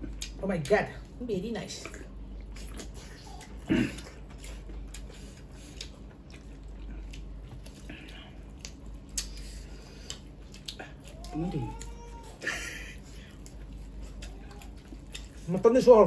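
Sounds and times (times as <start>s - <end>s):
mouth chewing and smacking: 0.0s - 16.0s
fingers squelching in food: 2.4s - 16.0s.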